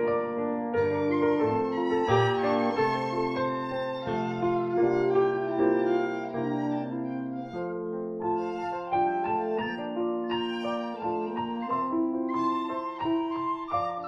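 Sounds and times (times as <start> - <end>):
small wind instrument: 0.0 - 14.0
violin: 0.0 - 14.0.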